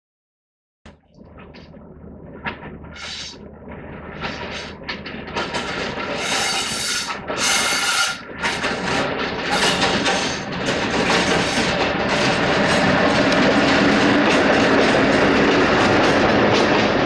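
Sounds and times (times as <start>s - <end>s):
diesel train approaching: 1.0s - 17.0s.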